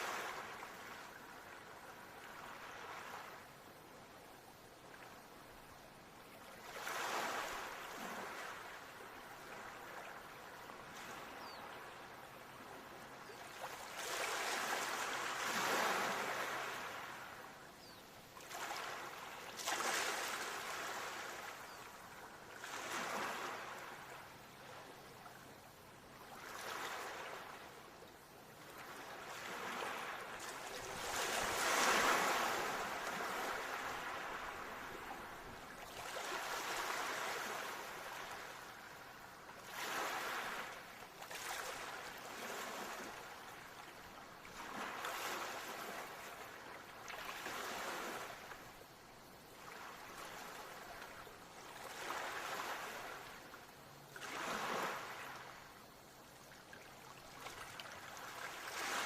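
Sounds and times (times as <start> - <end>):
ocean waves breaking on shore: 0.0 - 3.5, 6.3 - 17.6, 18.4 - 25.2, 26.2 - 27.9, 28.6 - 48.9, 49.6 - 56.0, 56.9 - 59.0.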